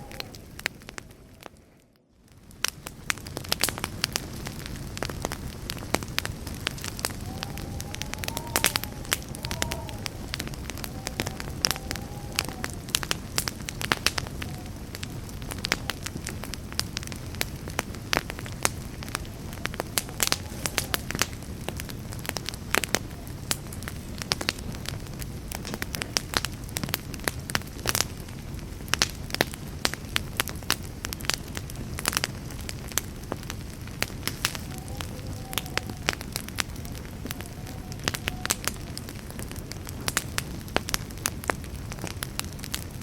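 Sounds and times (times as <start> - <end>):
campfire crackling: 0.0 - 43.0
rush of burning flames: 0.0 - 43.0
sharp pops of fire: 0.0 - 43.0.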